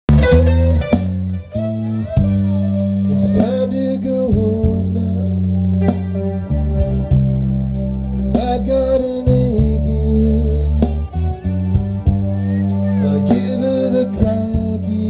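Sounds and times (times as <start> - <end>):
bass guitar holding notes: 0.0 - 15.0
guitar: 0.1 - 15.0.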